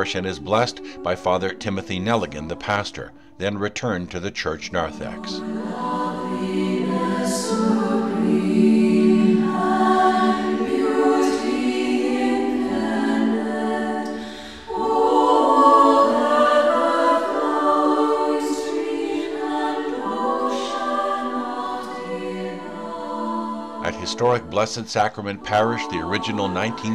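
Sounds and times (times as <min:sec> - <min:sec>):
women's choir singing unaccompanied: 0:00.0 - 0:03.4, 0:04.6 - 0:26.9.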